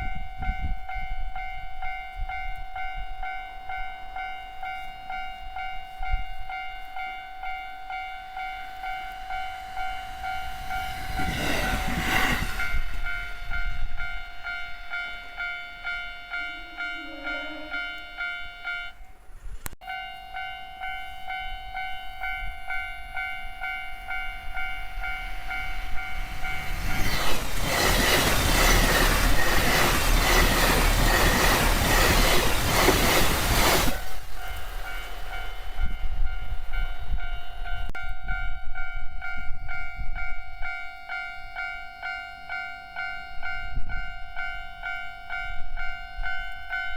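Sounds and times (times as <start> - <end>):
train passing: 0.0 - 40.7.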